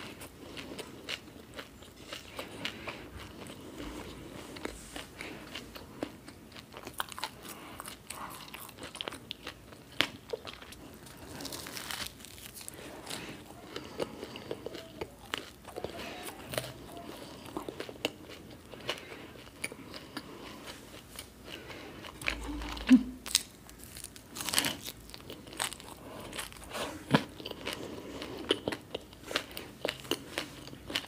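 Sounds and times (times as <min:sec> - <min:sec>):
crunchy chewing and biting: 0:00.0 - 0:31.0.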